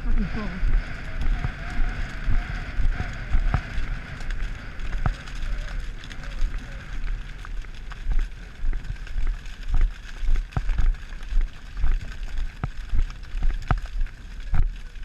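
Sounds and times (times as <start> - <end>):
horse hoofbeats on stubble: 0.0 - 15.0
stalks crackling: 0.0 - 15.0
wind rumble on microphone: 0.0 - 15.0.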